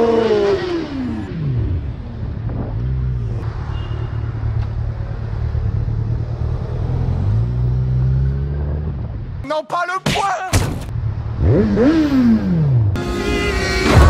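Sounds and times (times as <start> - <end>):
wind and road noise: 0.0 - 9.4, 10.6 - 13.0.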